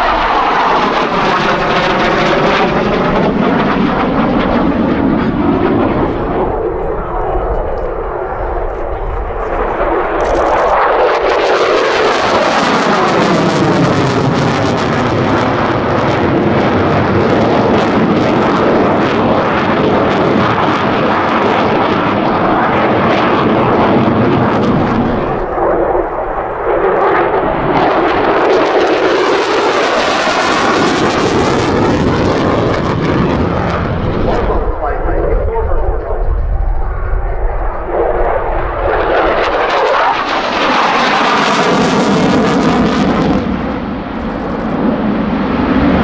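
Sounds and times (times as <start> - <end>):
jet engine roaring overhead: 0.0 - 46.0.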